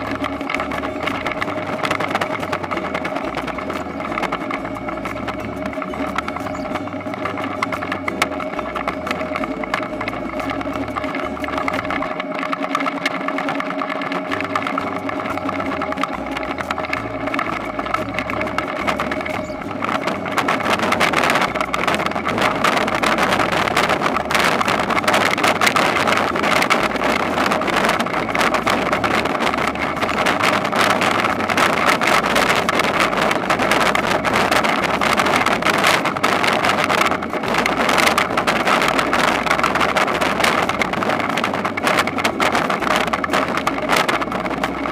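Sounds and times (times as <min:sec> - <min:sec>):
harvesting machine engine: 0:00.0 - 0:44.9
mechanical clatter: 0:00.0 - 0:44.9.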